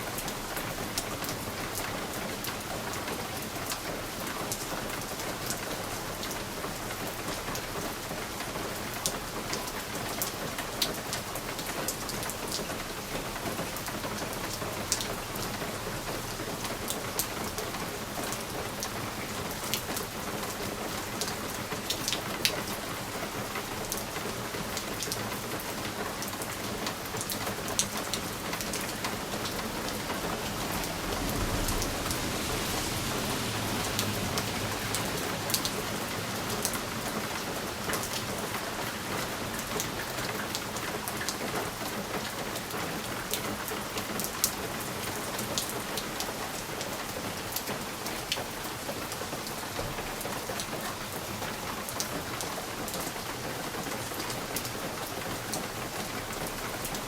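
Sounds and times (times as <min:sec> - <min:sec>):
rain on a window pane: 0:00.0 - 0:57.0.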